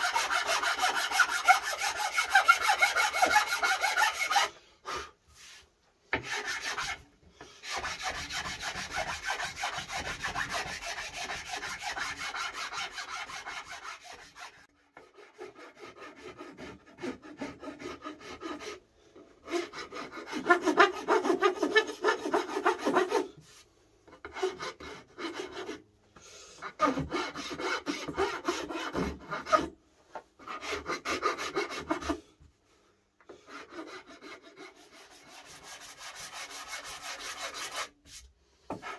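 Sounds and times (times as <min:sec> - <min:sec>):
hand rasp scraping wood: 0:00.0 - 0:04.6, 0:05.4 - 0:25.8, 0:26.6 - 0:29.7, 0:30.4 - 0:32.3, 0:33.3 - 0:38.9.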